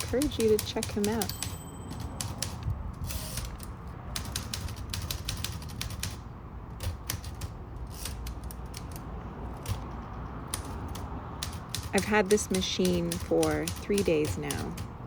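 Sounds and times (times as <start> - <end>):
typewriter key strikes: 0.0 - 6.2, 6.8 - 15.0.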